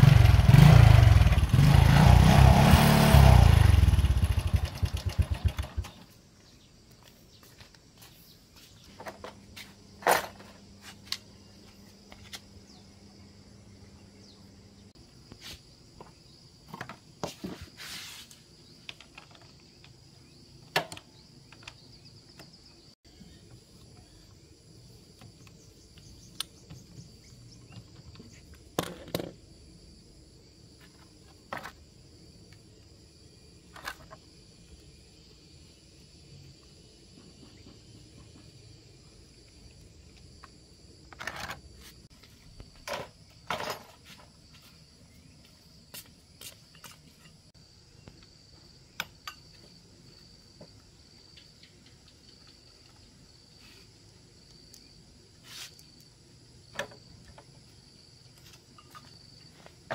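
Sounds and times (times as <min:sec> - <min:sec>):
insects chirring: 0:04.0 - 0:59.9.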